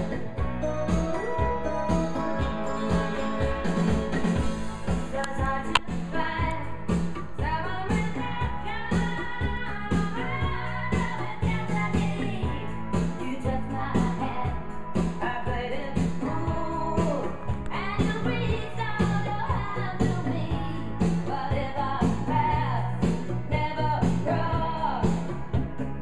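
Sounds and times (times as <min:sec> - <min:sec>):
pop music with singer: 0:00.0 - 0:26.0.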